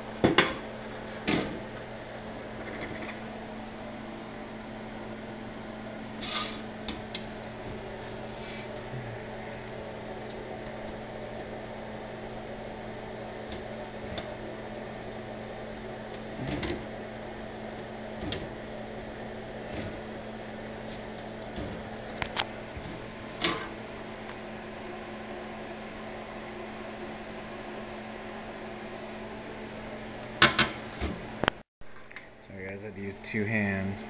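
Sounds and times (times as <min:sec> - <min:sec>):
electrical hum: 0:00.0 - 0:34.0.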